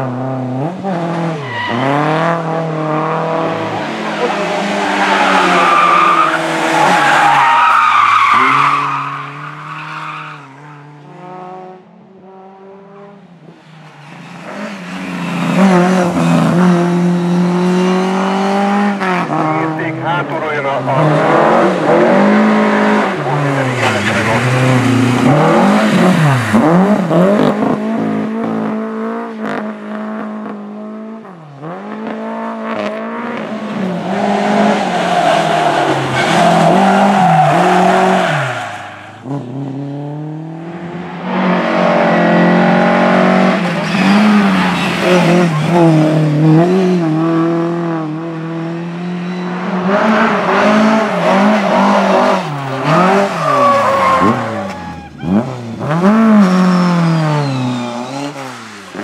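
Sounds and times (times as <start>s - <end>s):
rally car engines at full throttle: 0.0s - 59.0s.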